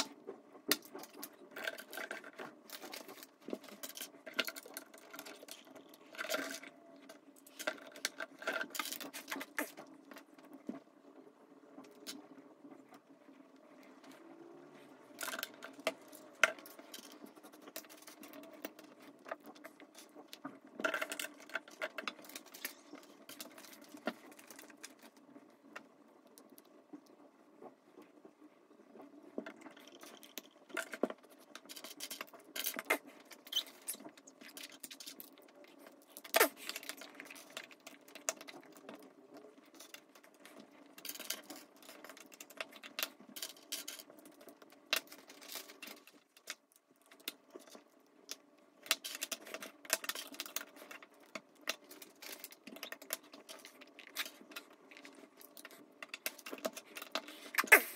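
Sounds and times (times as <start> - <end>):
plastic bricks clicking and rattling: 0.0 - 10.6, 15.1 - 26.6, 29.2 - 57.9
faint room hum: 0.0 - 57.9.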